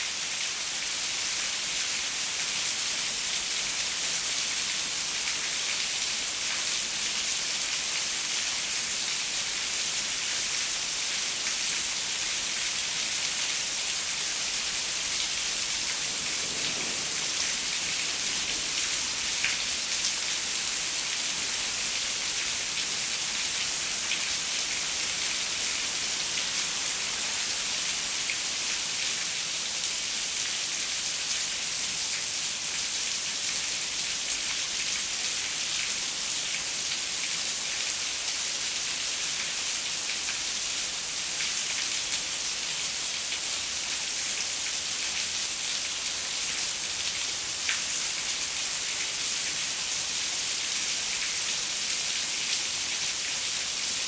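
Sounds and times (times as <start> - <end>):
rain on a window: 0.1 - 54.0.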